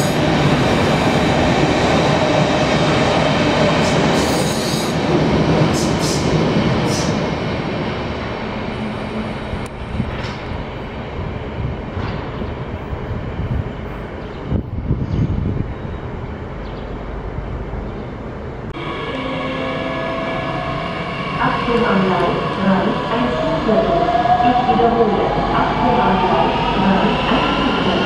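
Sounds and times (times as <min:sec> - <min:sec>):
electric train rumbling away: 0:00.0 - 0:28.0.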